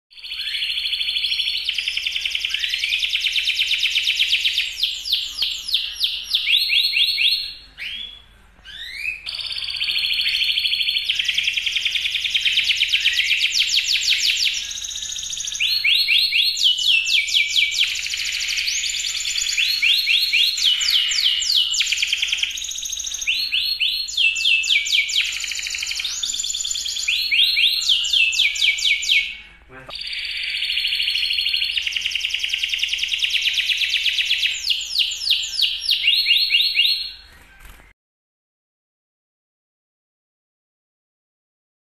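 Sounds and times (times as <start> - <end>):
canary singing trills: 0.1 - 37.9.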